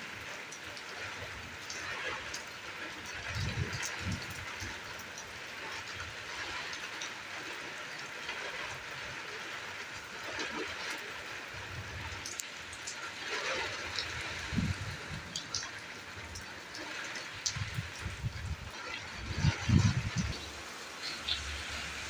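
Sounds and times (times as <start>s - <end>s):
heavy rain hissing: 0.0s - 22.0s
raindrops ticking: 0.0s - 22.0s.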